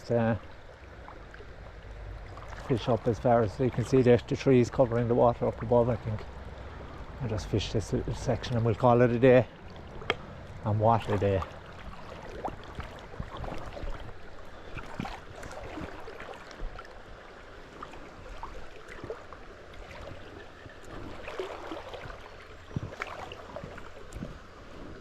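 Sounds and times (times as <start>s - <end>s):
shallow stream running: 0.0s - 25.0s
small splashes and knocks: 1.0s - 6.3s, 8.2s - 24.5s.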